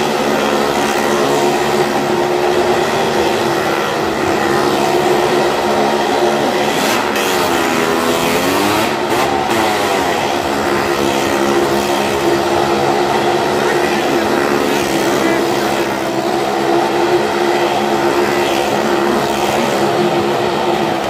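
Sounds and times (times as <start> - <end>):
car and motorcycle engines droning: 0.0 - 21.0.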